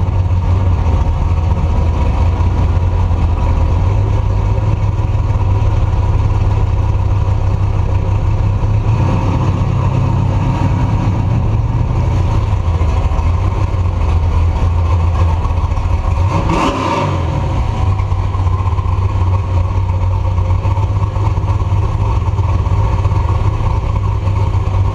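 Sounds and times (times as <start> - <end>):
truck engine droning: 0.0 - 24.9.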